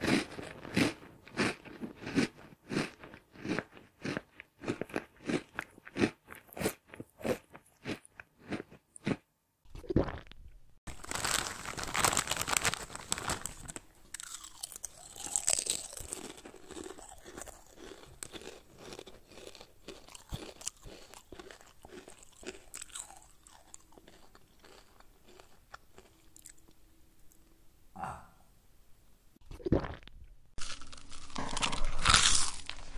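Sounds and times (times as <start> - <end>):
person chewing crunchy food: 0.0 - 26.8, 29.4 - 32.9.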